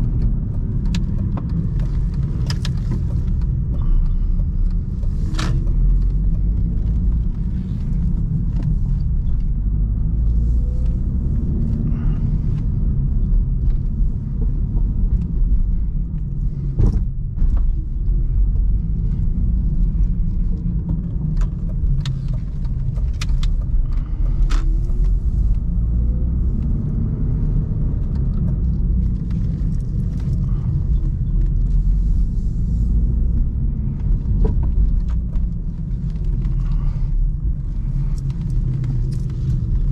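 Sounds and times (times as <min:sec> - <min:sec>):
car engine rumbling: 0:00.0 - 0:39.9
road noise: 0:00.0 - 0:39.9.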